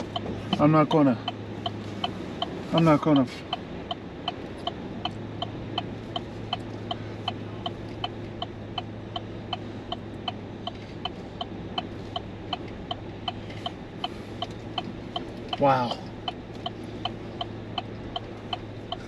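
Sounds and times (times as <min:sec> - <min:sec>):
low steady hum: 0:00.0 - 0:19.0
turn signal clicking: 0:00.0 - 0:19.0.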